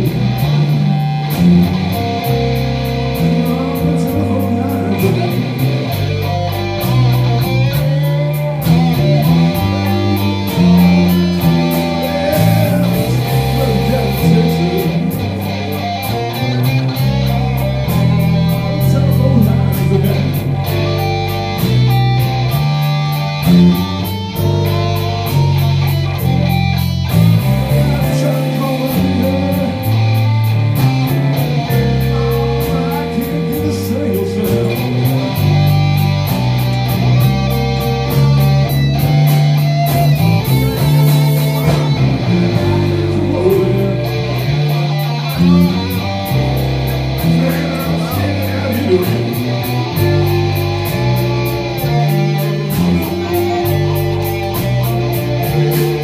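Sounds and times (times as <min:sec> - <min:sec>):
bass guitar: 0:00.0 - 0:56.0
drums with cymbals: 0:00.0 - 0:56.0
electric guitars: 0:00.0 - 0:56.0.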